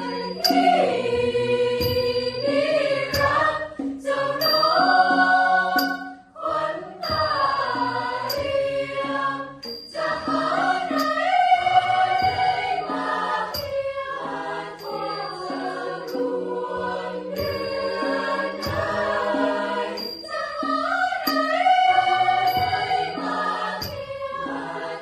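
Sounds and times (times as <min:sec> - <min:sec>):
choir singing in harmony: 0:00.0 - 0:25.0.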